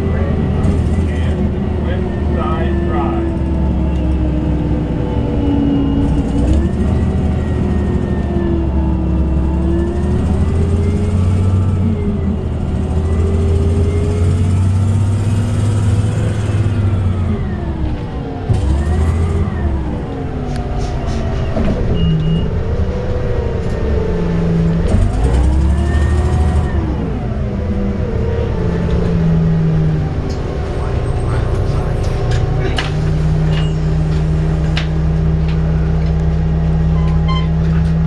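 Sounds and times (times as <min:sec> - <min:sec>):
bus drivetrain rumble and whine: 0:00.0 - 0:38.0.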